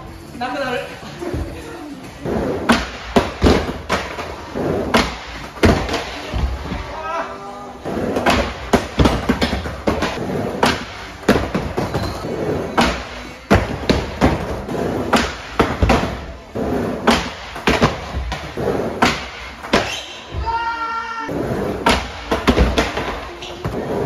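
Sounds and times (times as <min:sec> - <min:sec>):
skateboard wheels rolling: 0:02.2 - 0:06.9, 0:07.8 - 0:20.6, 0:21.3 - 0:24.0.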